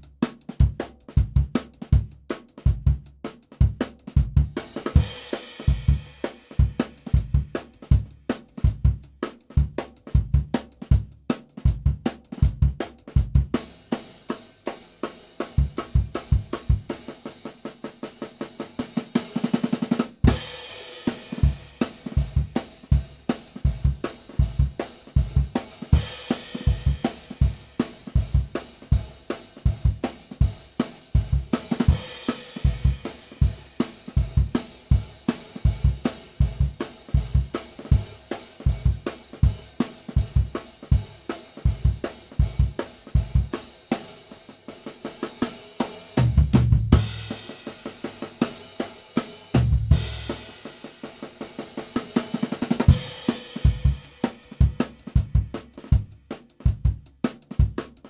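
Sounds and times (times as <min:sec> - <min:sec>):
music with drum-kit beat: 0:00.0 - 0:58.0.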